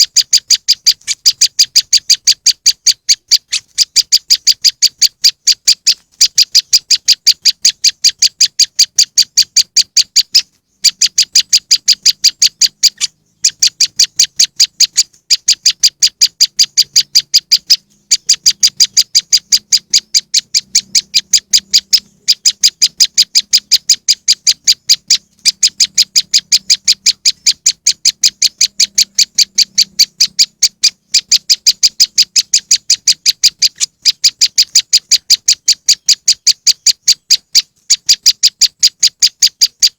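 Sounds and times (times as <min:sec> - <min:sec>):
bird-lure chip calls: 0:00.0 - 0:39.9.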